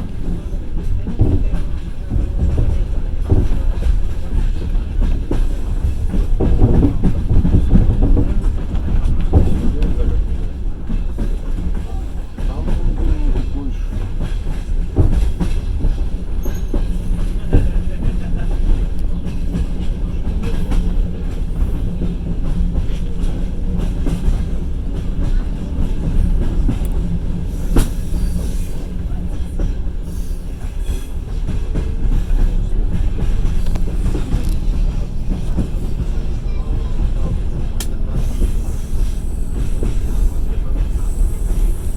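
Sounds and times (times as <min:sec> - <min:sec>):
sharp rail clacks: 0:00.0 - 0:41.9
train wheels rumbling on rails: 0:00.0 - 0:41.9.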